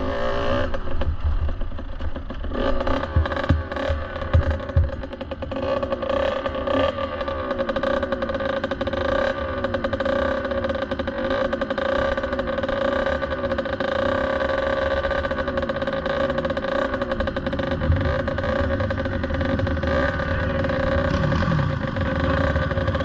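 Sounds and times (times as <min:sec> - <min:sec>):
dirt bike engine idling: 0:00.0 - 0:23.0
second dirt bike engine: 0:00.0 - 0:23.0.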